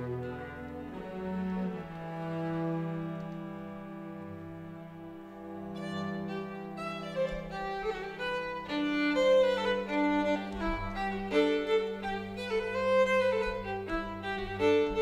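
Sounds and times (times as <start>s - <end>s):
violins playing a fiddle tune: 0.0s - 15.0s.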